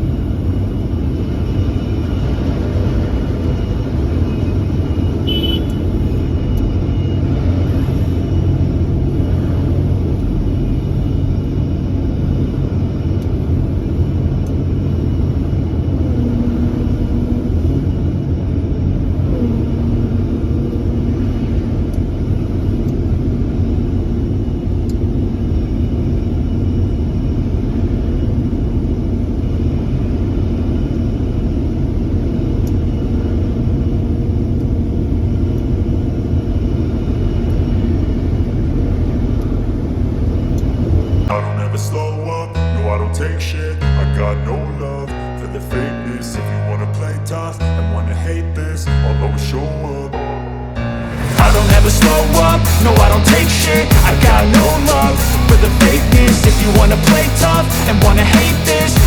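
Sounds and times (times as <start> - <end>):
steady higher hum: 0.0 - 59.0.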